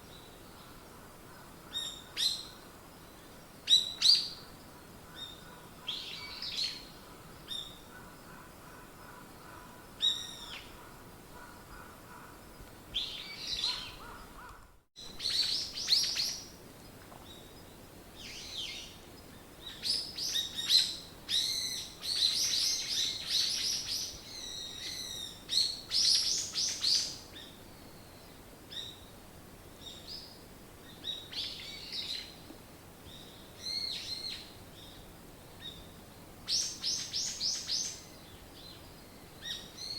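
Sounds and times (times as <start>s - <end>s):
faint steady tone: 0.0s - 39.9s.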